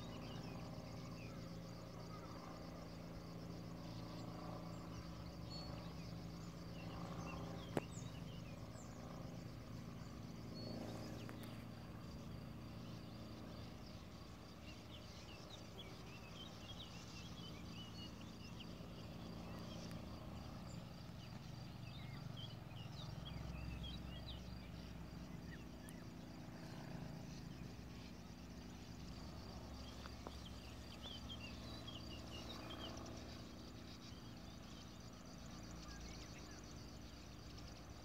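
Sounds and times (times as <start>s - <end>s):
birds chirping and twittering: 0.0s - 38.0s
faint high whine: 0.0s - 38.0s.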